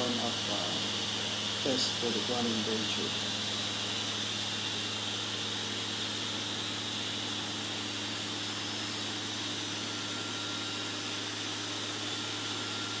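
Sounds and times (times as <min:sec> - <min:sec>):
quadcopter motors humming: 0:00.0 - 0:13.0.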